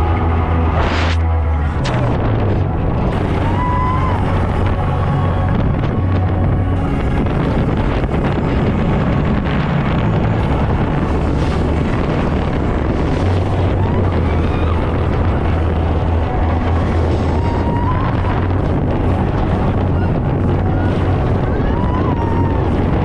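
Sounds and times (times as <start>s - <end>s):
speedboat engines droning: 0.0s - 23.0s
wind buffeting on microphone: 0.0s - 23.0s.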